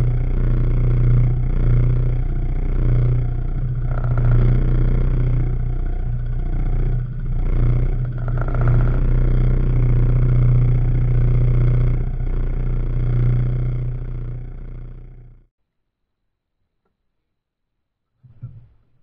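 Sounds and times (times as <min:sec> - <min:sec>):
muffled boat engine hum: 0:00.0 - 0:15.5.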